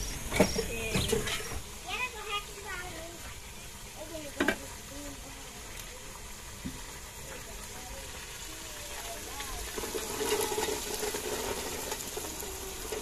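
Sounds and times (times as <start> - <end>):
gas stove hissing: 0.0 - 13.0.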